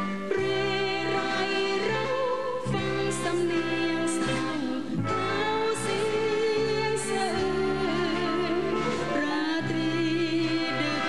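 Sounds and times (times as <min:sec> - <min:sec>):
band accompaniment: 0:00.0 - 0:11.0
woman singing with vibrato: 0:00.0 - 0:11.0.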